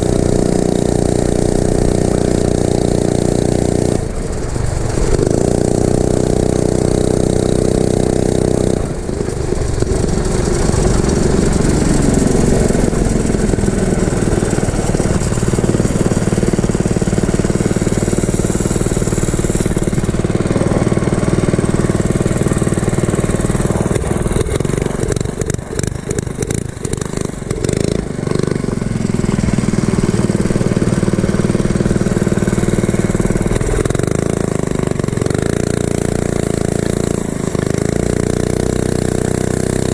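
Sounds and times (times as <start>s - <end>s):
small engine running hard: 0.0s - 39.9s.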